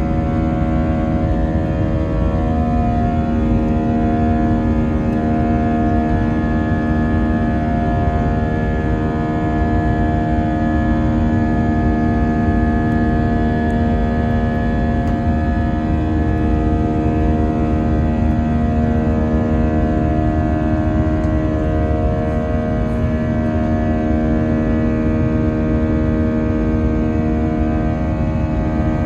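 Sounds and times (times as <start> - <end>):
jet engine drone in cabin: 0.0 - 29.0.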